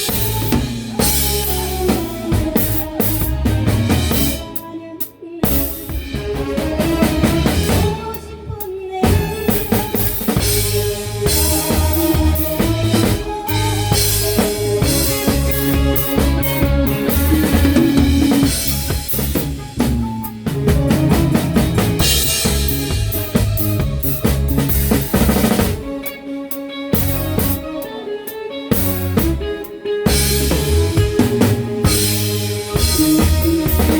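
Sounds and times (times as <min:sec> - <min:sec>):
band playing a song: 0:00.0 - 0:33.9
drum kit beat: 0:00.0 - 0:33.9.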